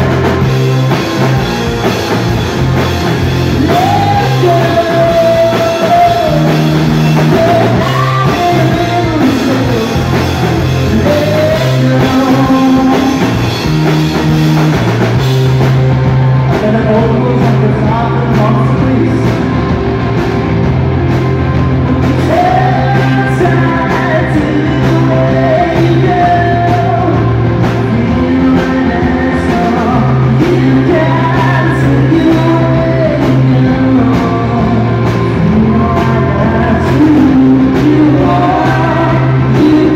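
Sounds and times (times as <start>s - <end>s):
male lead vocal: 0.0s - 1.6s, 2.7s - 14.3s, 16.3s - 19.7s, 21.9s - 39.9s
bass guitar: 0.0s - 39.9s
drum kit: 0.0s - 39.9s
electric guitar: 0.0s - 39.9s.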